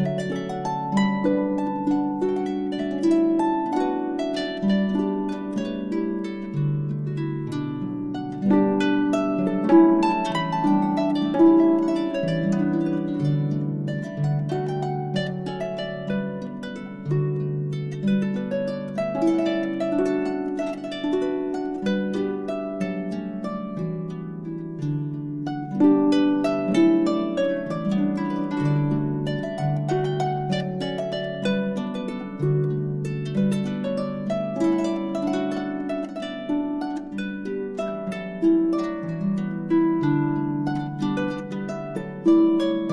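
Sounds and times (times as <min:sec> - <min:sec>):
harp music: 0:00.0 - 0:42.9.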